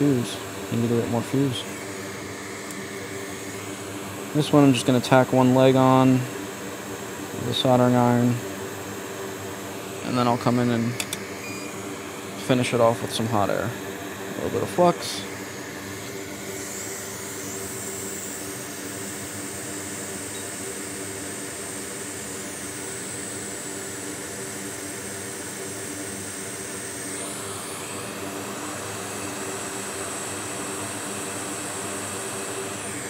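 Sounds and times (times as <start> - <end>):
hot air blower hissing: 0.0 - 33.0.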